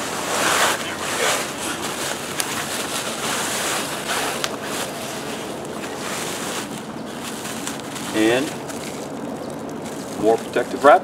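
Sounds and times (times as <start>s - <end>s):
plastic wrapping rustling: 0.0s - 11.0s.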